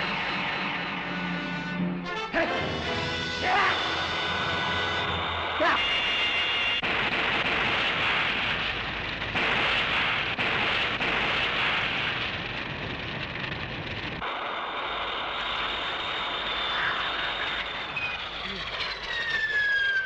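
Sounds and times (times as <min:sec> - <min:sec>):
steady rushing noise: 0:00.0 - 0:02.8, 0:03.6 - 0:19.0
explosion roar with crackle: 0:02.7 - 0:20.0.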